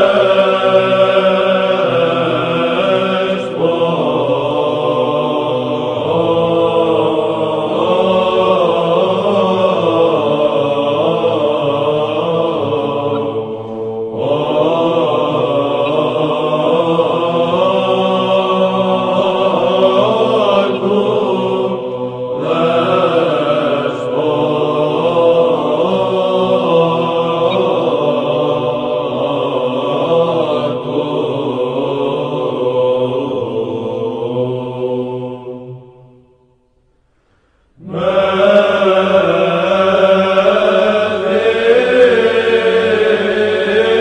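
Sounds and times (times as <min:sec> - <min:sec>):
held low vocal drone: 0:00.0 - 0:36.6, 0:37.8 - 0:44.0
voices chanting slow melody: 0:00.0 - 0:44.0.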